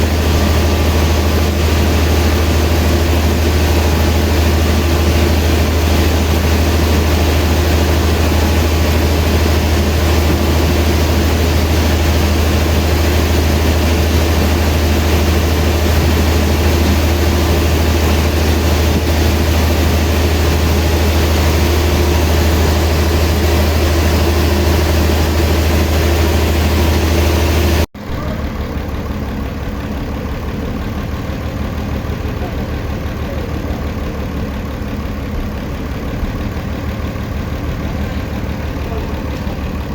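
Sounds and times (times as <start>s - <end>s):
engine throbbing: 0.0s - 39.9s
sawmill machinery humming: 0.0s - 39.9s.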